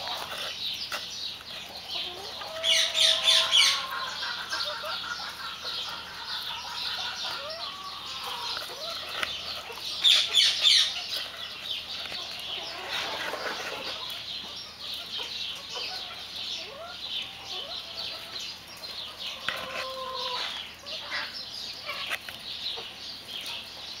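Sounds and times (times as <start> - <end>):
chickens clucking and chirping: 0.0 - 24.0.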